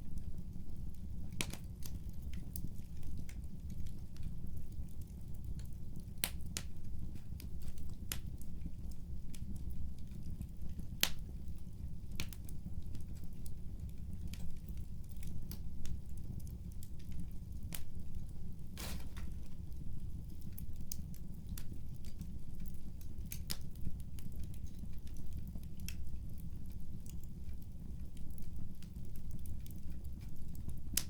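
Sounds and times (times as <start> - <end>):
fireplace crackling: 0.0 - 31.0.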